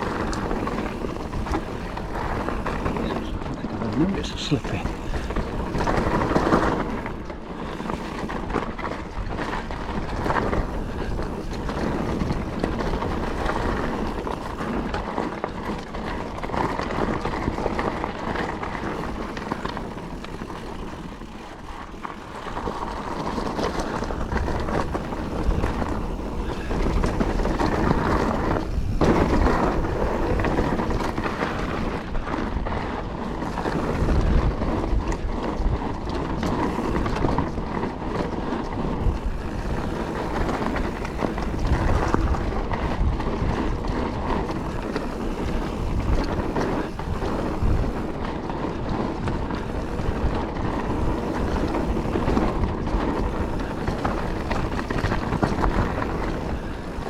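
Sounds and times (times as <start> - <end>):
bike tyres on loose gravel: 0.0 - 57.0
wind buffeting microphone: 0.0 - 57.0
bike clicks and knocks: 5.0 - 57.0.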